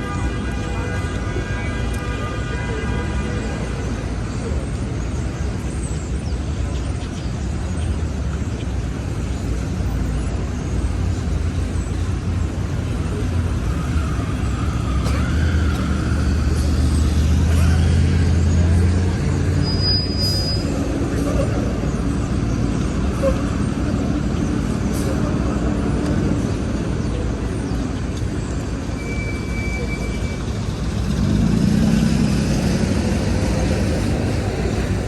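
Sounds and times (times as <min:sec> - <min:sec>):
city street traffic: 0:00.0 - 0:35.0
heavy vehicle engine rumble: 0:03.6 - 0:35.0.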